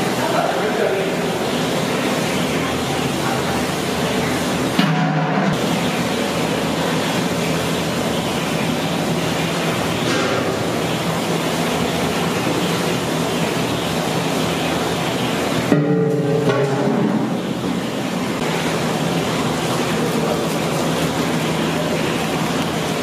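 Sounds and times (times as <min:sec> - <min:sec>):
kitchen rushing background noise: 0:00.0 - 0:23.0.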